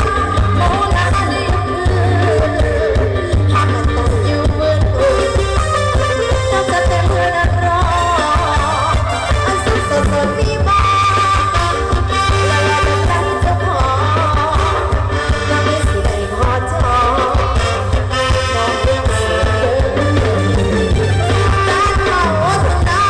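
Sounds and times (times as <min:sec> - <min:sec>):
lead singer singing: 0:00.0 - 0:23.0
live band through loud speakers: 0:00.0 - 0:23.0.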